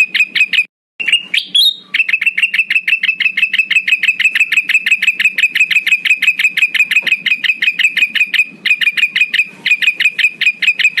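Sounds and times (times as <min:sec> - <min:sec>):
bird sharp high chips: 0:00.0 - 0:11.0.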